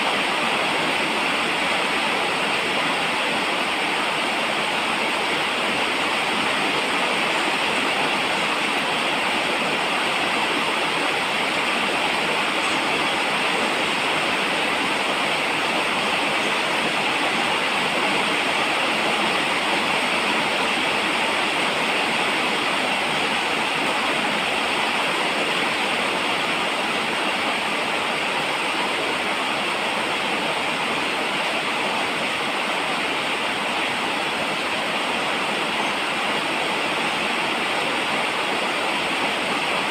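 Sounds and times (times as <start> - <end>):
steady falling rain: 0.0 - 39.9.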